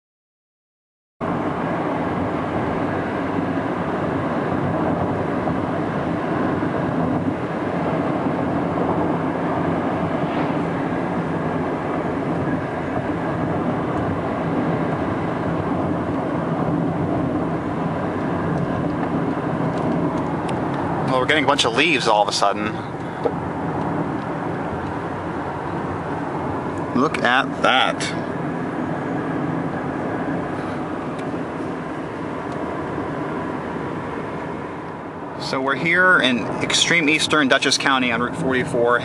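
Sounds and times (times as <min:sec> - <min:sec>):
car engine and road rumble: 0:01.2 - 0:39.0.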